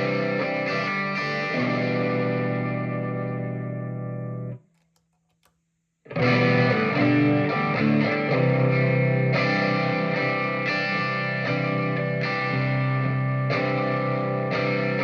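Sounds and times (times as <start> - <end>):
distorted electric guitar chord: 0.0 - 4.5, 6.1 - 15.0.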